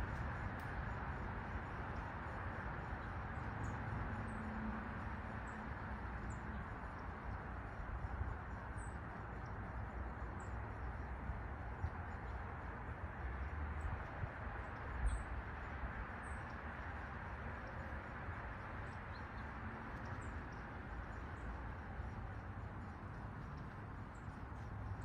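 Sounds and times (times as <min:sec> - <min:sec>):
small birds chirping: 0:00.0 - 0:25.0
steady rushing noise: 0:00.0 - 0:25.0.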